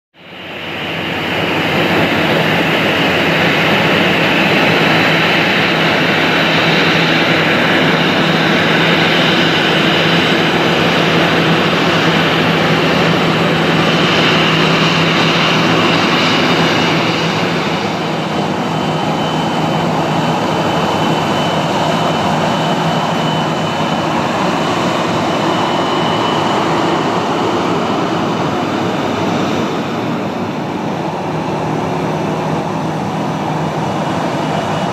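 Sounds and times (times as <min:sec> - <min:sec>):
jet engines at taxi power: 0:00.2 - 0:34.9.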